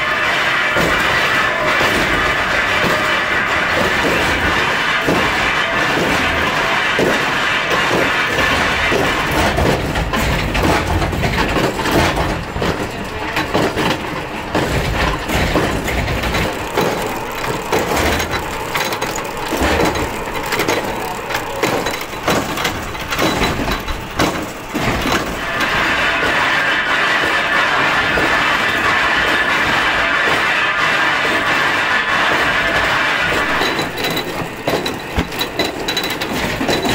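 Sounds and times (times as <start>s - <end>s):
factory machinery din: 0.0s - 36.9s
wooden knocks and clatter: 0.7s - 36.9s.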